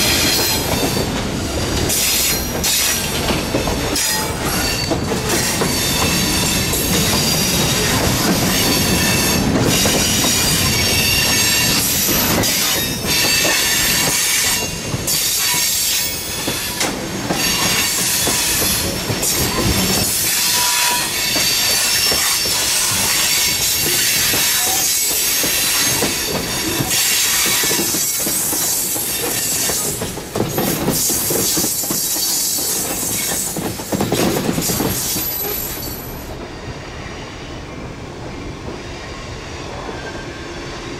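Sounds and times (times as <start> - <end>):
rumble of moving train: 0.0 - 40.9
train wheels squealing on rail: 0.0 - 40.9.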